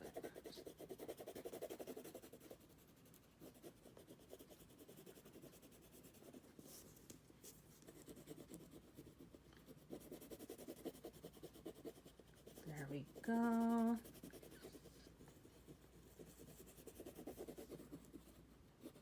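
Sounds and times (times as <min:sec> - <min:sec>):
drawing tool scribbling on paper: 0:00.0 - 0:06.8, 0:07.8 - 0:19.0.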